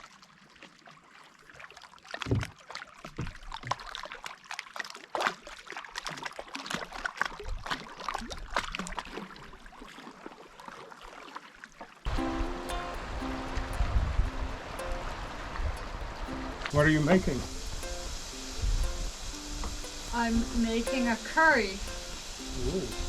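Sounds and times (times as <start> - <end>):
canoe paddles splashing water: 0.0 - 23.0
water dripping and trickling: 0.0 - 23.0.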